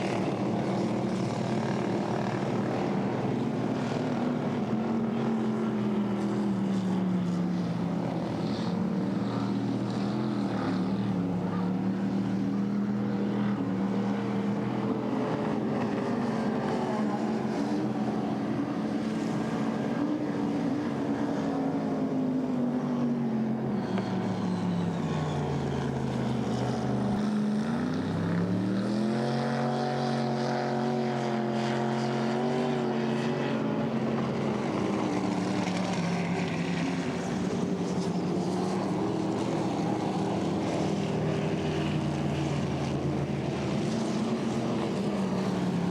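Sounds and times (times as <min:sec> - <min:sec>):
racing boat engine: 0:00.0 - 0:45.9.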